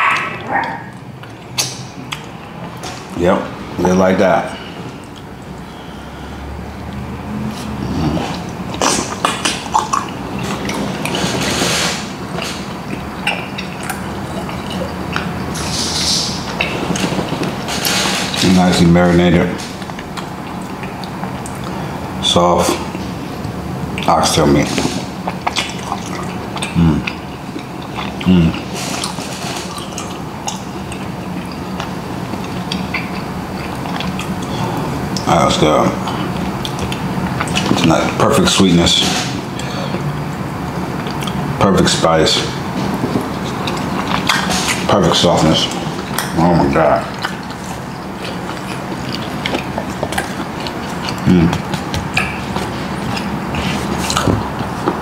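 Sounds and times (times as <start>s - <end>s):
wet chewing and mouth smacks: 0.0s - 3.2s, 4.6s - 18.5s, 19.5s - 35.3s, 35.9s - 41.6s, 42.4s - 55.0s.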